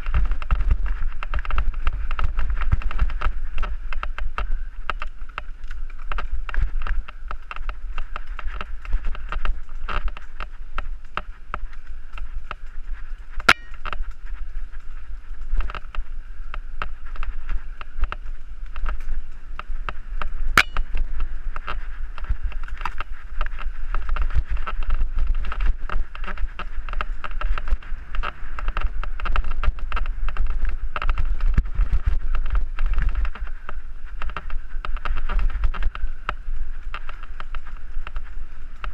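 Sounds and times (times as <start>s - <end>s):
bike rattling over bumps: 0.0s - 38.9s
wind buffeting microphone: 0.0s - 38.9s.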